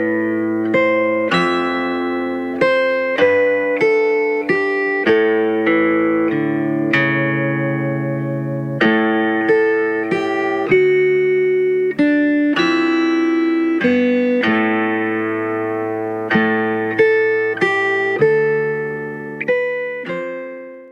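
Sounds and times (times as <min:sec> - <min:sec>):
plucked string instrument: 0:00.0 - 0:20.9.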